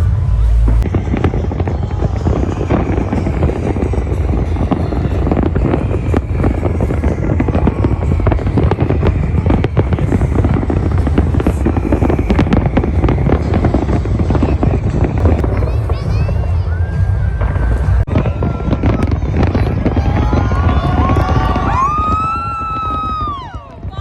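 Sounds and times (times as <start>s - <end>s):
fireworks crackling and banging: 0.0s - 24.0s
steady low rumble: 0.0s - 24.0s.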